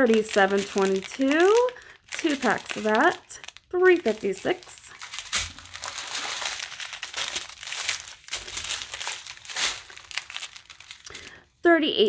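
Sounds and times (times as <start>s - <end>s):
plastic bags crinkling: 0.0s - 11.4s.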